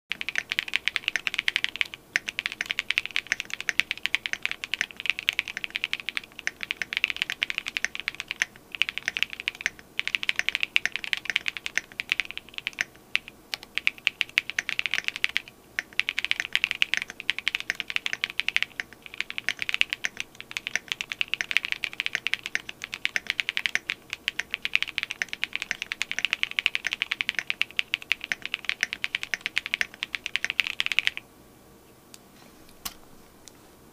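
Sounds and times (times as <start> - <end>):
fast typing on mechanical keyboard: 0.1 - 31.2.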